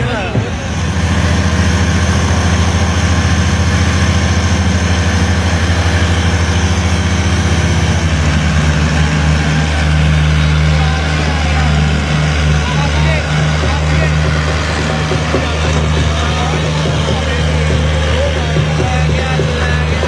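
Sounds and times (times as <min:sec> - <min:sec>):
tractor diesel engine throbbing: 0:00.0 - 0:20.0.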